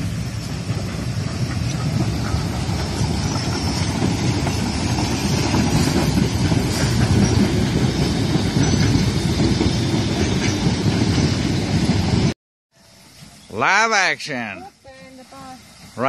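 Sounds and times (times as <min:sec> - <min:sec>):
steam locomotive rumbling past: 0:00.0 - 0:16.0.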